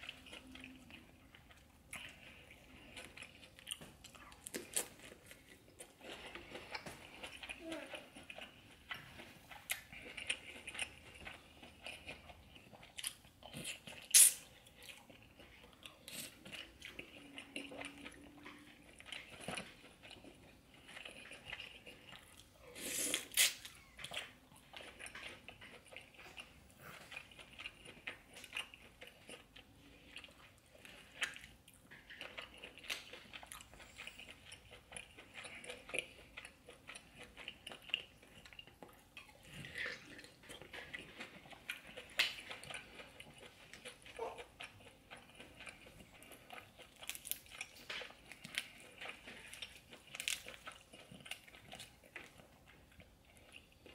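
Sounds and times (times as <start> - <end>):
wet chewing and crunching: 0.0 - 53.9.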